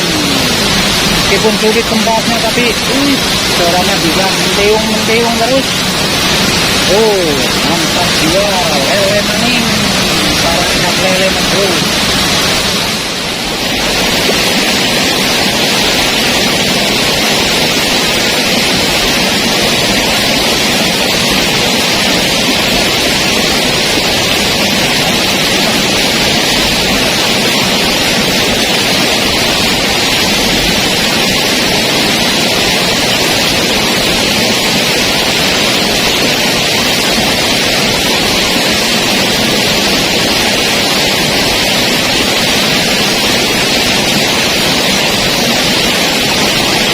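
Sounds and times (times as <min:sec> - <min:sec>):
waterfall roaring: 0:00.0 - 0:46.9.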